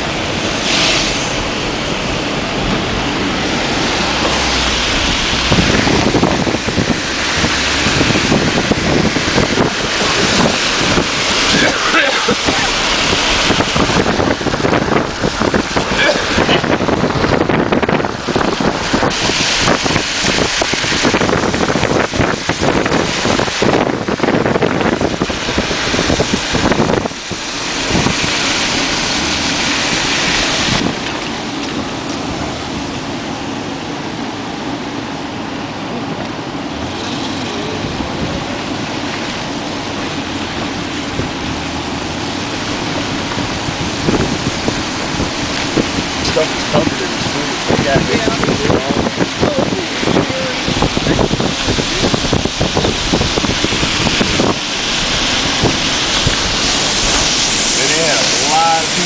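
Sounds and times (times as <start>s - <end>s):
moving car rushing noise: 0.0s - 59.0s
wind buffeting microphone: 0.0s - 59.0s.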